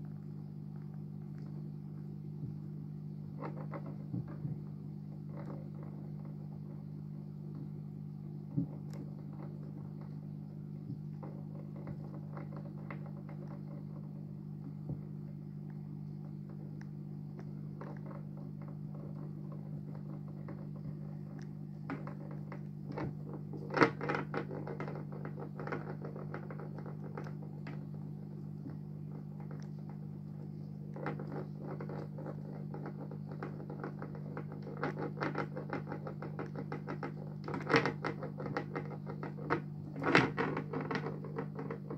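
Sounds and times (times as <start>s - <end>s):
aquarium filter humming: 0.0s - 41.9s.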